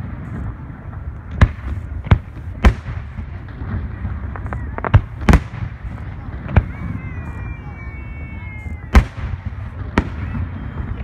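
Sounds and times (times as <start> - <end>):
fireworks bangs: 0.0 - 11.0
fireworks popping: 0.0 - 11.0.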